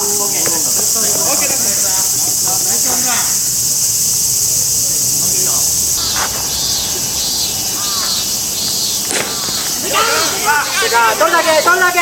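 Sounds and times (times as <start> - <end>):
cicadas droning: 0.0 - 12.0
faint distant voices: 0.0 - 12.0.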